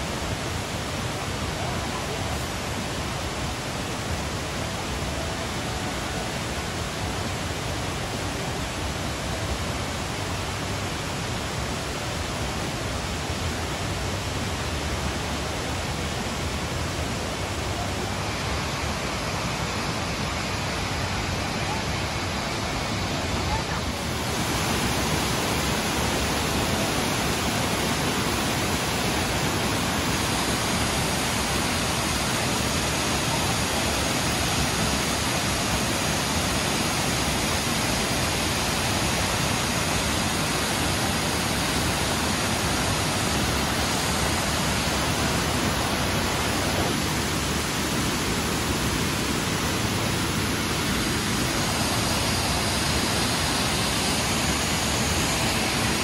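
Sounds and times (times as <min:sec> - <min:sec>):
waterfall rushing and splashing: 0:00.0 - 0:56.0.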